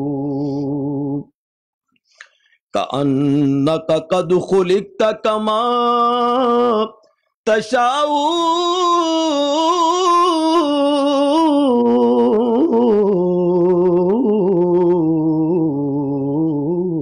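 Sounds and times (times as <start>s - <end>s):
person singing unaccompanied: 0.0s - 1.3s, 2.8s - 17.0s.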